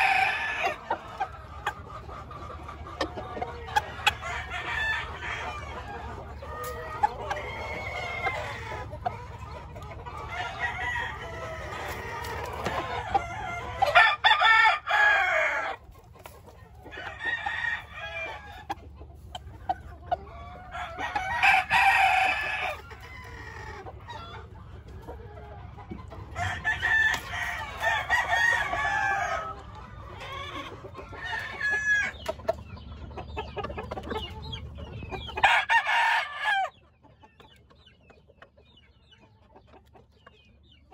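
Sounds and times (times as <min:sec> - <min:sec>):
roosters crowing: 0:00.0 - 0:32.6, 0:35.0 - 0:36.8.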